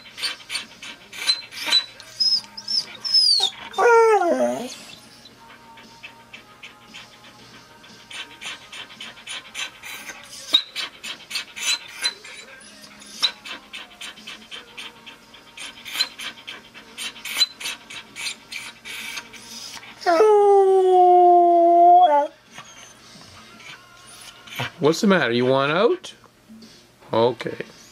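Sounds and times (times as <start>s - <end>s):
dog panting rapidly: 0.0s - 3.8s, 4.4s - 20.0s, 22.7s - 25.7s
dog howling: 0.0s - 24.8s.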